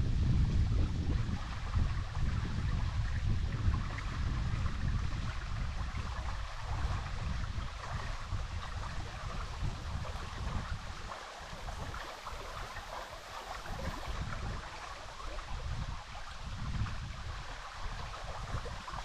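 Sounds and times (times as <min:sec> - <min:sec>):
stream babbling over stones: 0:02.5 - 0:19.0.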